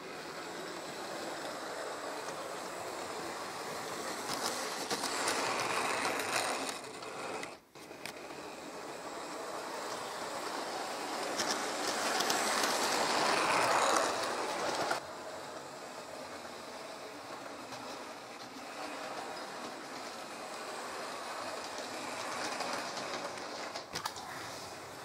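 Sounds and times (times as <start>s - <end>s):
model train motor whirring: 0.0s - 25.0s
wheels rattling over rails: 0.0s - 25.0s.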